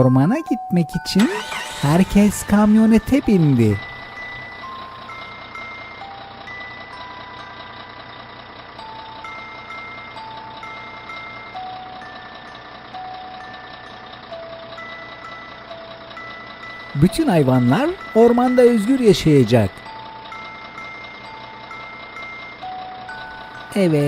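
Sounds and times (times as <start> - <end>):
simple melody of held notes: 0.0 - 1.5, 2.2 - 24.0
toy truck engine sound effect: 1.0 - 24.0.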